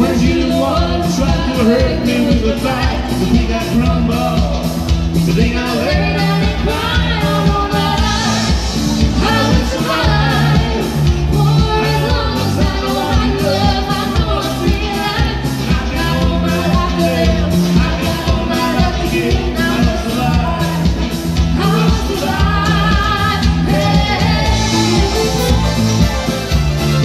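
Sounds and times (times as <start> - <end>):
woman singing into a microphone: 0.0 - 4.0, 5.3 - 25.6
live band music: 0.0 - 27.0.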